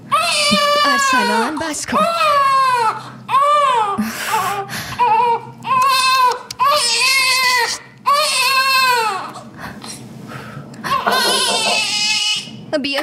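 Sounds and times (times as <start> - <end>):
baby crying: 0.1 - 9.4, 10.9 - 12.6.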